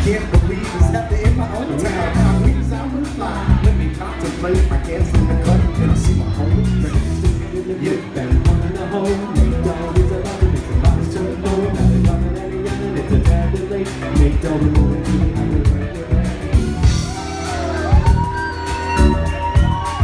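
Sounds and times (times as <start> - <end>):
drum beat: 0.0 - 20.0
heavy bass line: 0.0 - 20.0
live band playing: 0.0 - 20.0
person singing: 0.0 - 20.0.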